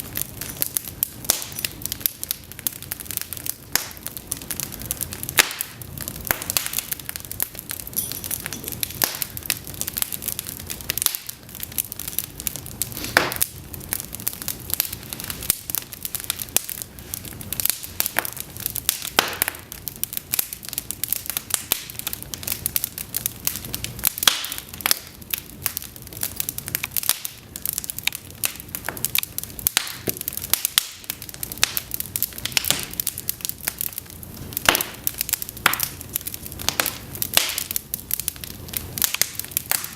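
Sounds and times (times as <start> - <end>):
logs burning with crackling: 0.0 - 39.9
sharp pops of fire: 0.0 - 39.9.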